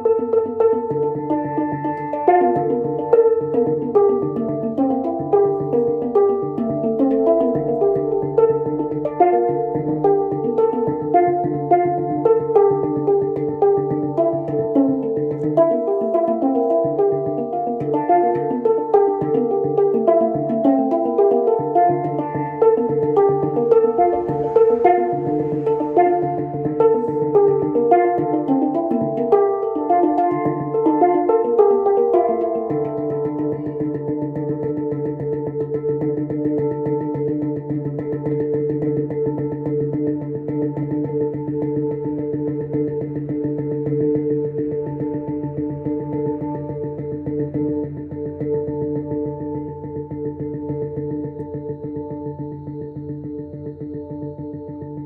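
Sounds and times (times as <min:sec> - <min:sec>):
handpan melody: 0:00.0 - 0:55.0.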